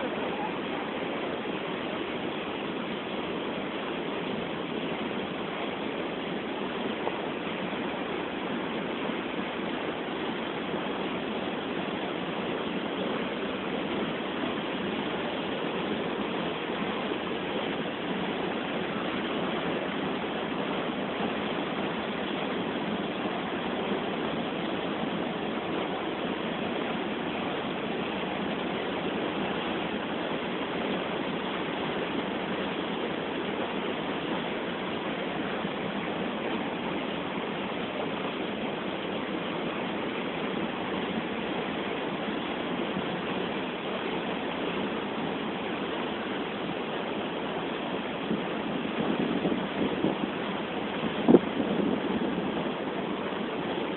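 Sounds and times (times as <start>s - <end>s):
water rushing over weir: 0.0s - 53.9s.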